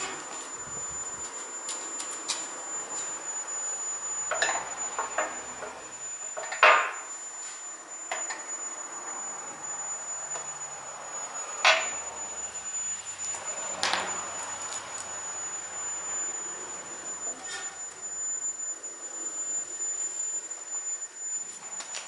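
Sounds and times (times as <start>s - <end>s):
thin high whistle: 0.0s - 22.0s.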